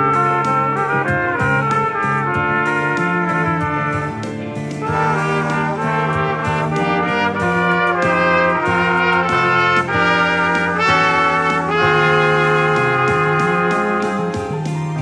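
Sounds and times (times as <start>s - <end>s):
backing track with bass line: 0.0s - 15.0s
trumpets playing in harmony: 0.0s - 15.0s.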